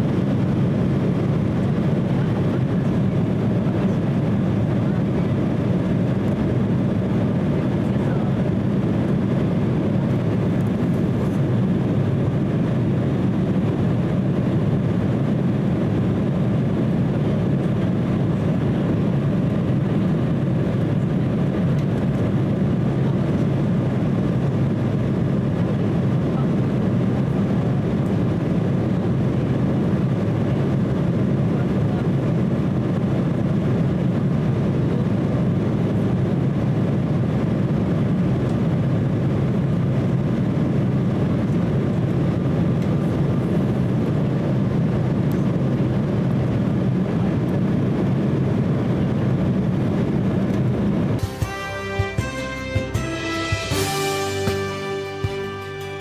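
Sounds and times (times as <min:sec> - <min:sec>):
air rushing along fuselage: 0:00.0 - 0:56.0
jet engine drone: 0:00.0 - 0:56.0.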